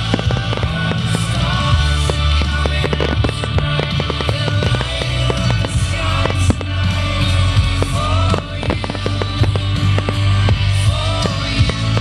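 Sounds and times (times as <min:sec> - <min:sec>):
fireworks bursting and crackling: 0:00.0 - 0:12.0
music with singing: 0:00.0 - 0:12.0.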